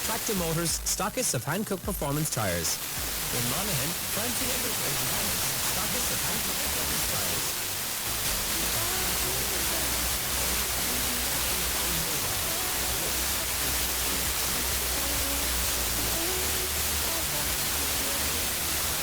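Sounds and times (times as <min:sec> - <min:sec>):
faint radio music: 0:00.0 - 0:19.0
radio static hiss: 0:00.0 - 0:19.0.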